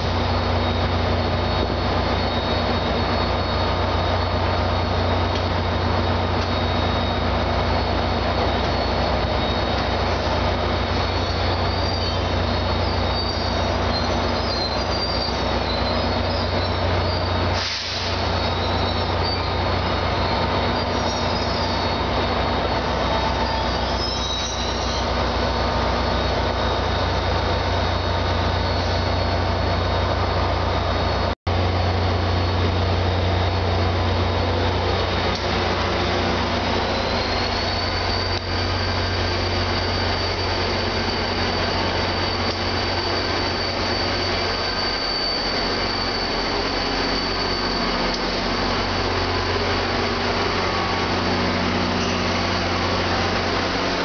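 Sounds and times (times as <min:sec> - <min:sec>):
train wheels squealing: 0:00.0 - 0:31.3, 0:31.9 - 0:54.0
diesel locomotive idling: 0:00.0 - 0:54.0
high-pitched whine: 0:00.0 - 0:54.0.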